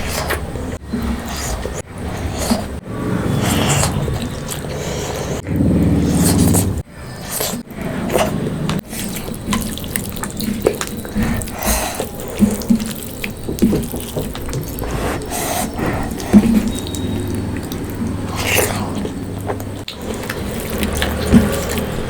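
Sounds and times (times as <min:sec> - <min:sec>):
wet eating sounds: 0:00.0 - 0:22.0.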